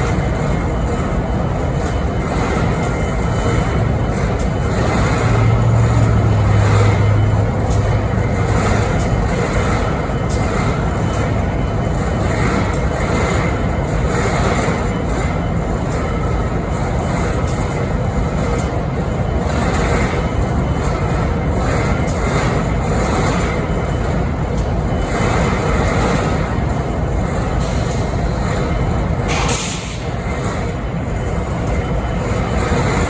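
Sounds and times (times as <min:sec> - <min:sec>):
diesel locomotive idling: 0:00.0 - 0:33.0.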